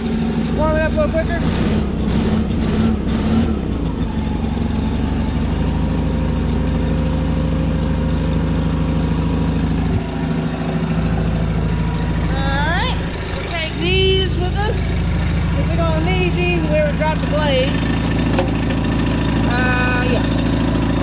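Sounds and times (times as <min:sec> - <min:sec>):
small tractor engine running: 0:00.0 - 0:21.0.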